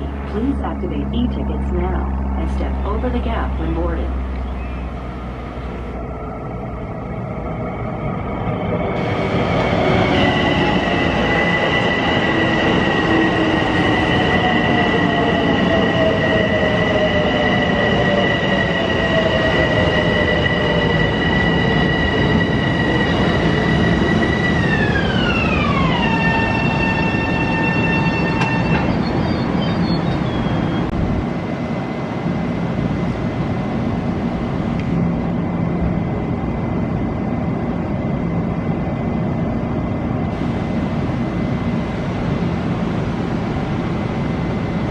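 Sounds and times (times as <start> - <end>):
train traction motor whine: 0.0 - 36.7, 40.3 - 44.9
train rumbling over rails: 0.0 - 44.9.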